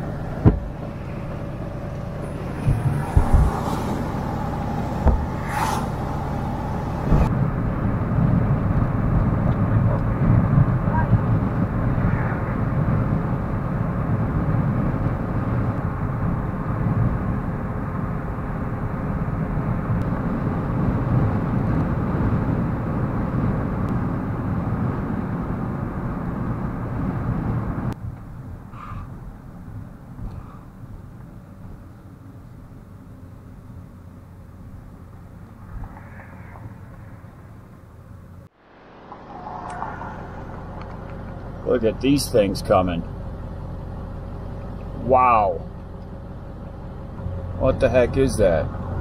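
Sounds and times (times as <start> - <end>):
road and engine rumble in cab: 0.0 - 49.0.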